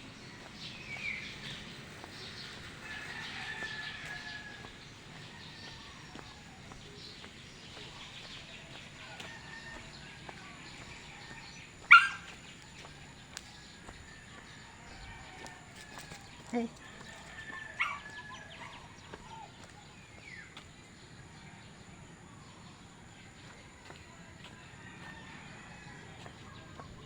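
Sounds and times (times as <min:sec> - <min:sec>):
birds calling and chirping: 0:00.0 - 0:27.0.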